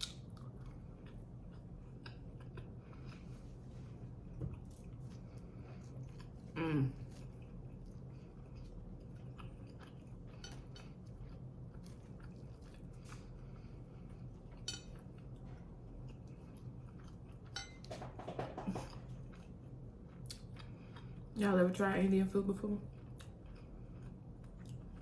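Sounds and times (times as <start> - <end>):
chewing and wet mouth sounds: 0.0 - 18.0, 18.8 - 21.4, 22.8 - 25.0
faint low hum: 0.0 - 25.0.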